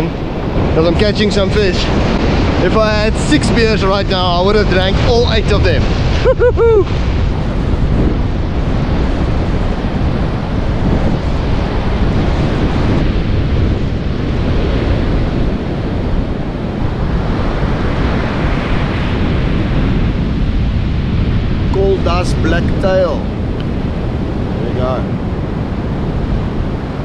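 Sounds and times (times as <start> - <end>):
waves breaking: 0.0 - 27.0
wind buffeting microphone: 0.0 - 27.0.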